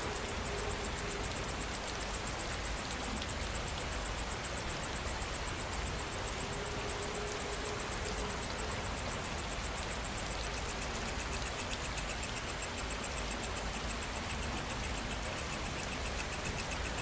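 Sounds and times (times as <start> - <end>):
insects chirping high-pitched: 0.0 - 17.0
lower insect chirp: 0.0 - 17.0
rain falling: 0.0 - 17.0.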